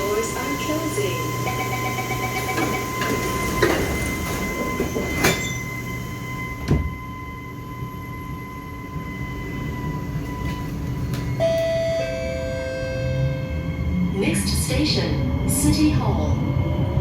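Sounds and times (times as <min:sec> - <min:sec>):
train doors shutting: 0:00.0 - 0:16.9
train low rumble: 0:00.0 - 0:17.0
door warning tone: 0:00.1 - 0:14.4.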